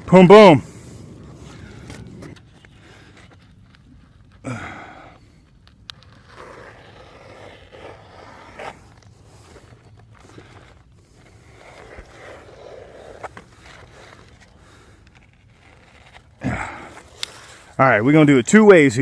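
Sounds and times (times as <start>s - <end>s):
scraping and rustling on shingles: 0.0s - 19.0s.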